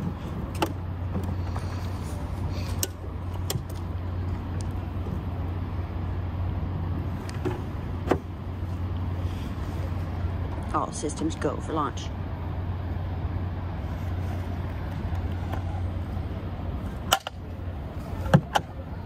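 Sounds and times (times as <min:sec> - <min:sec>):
low steady drone: 0:00.0 - 0:19.0.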